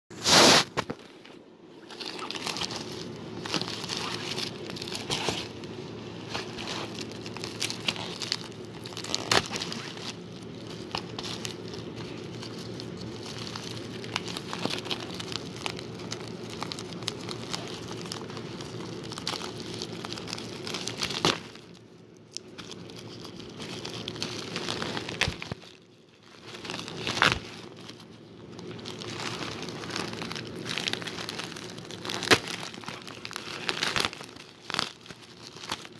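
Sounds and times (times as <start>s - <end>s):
plastic packaging crinkling: 0.2s - 35.9s.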